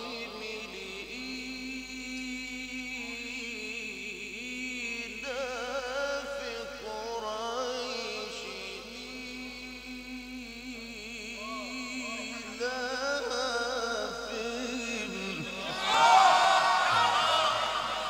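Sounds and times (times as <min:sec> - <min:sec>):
man reciting melodically: 0:00.0 - 0:17.8.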